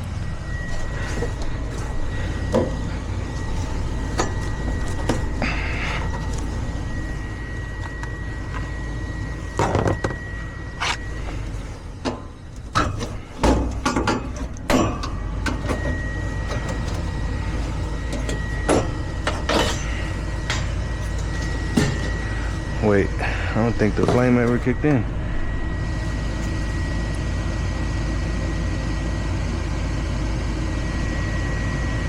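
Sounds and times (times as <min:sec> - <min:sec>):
furnace motor running: 0:00.0 - 0:32.0.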